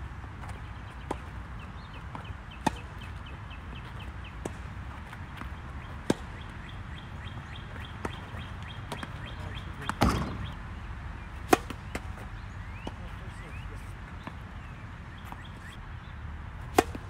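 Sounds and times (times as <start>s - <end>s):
birds chirping: 0.0s - 17.0s
tennis balls struck by rackets: 0.4s - 15.8s, 16.6s - 17.0s.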